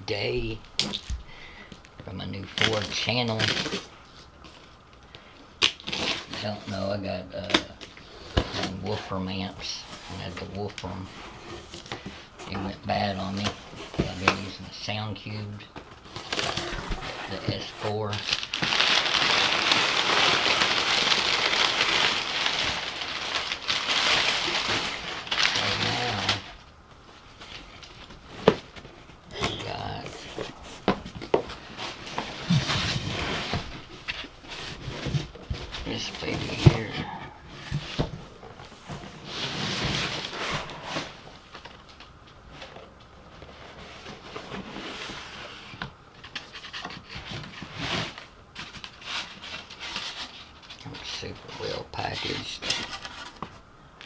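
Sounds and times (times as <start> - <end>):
packaging crinkling and rustling: 0.2 - 54.0.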